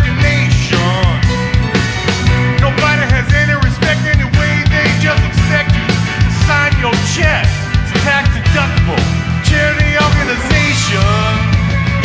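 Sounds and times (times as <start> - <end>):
bending lead guitar line: 0.0 - 12.0
live rock band playing: 0.0 - 12.0
steady drum beat: 0.0 - 12.0.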